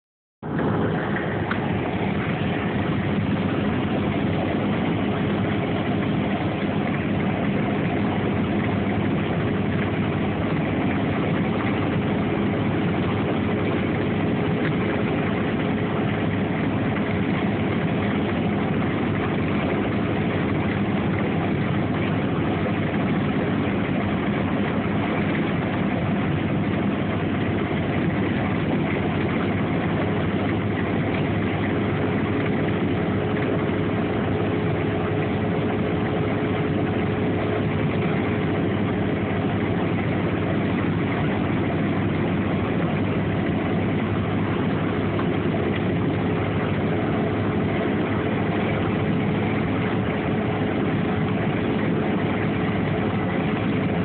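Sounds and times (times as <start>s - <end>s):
car engine humming: 0.4s - 54.0s.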